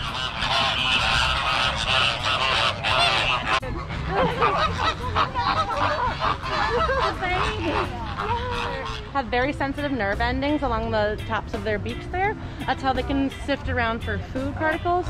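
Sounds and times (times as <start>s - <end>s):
flamingos honking: 0.0s - 15.0s.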